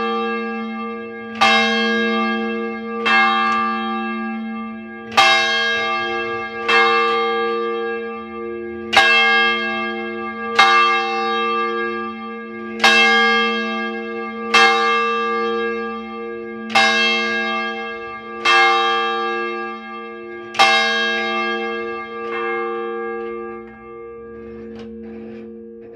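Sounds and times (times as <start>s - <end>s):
church bell ringing: 0.0s - 25.9s.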